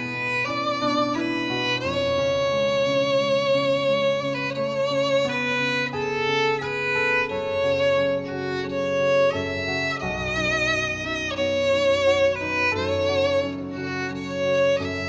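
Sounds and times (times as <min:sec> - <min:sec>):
violin melody with vibrato: 0:00.0 - 0:15.0.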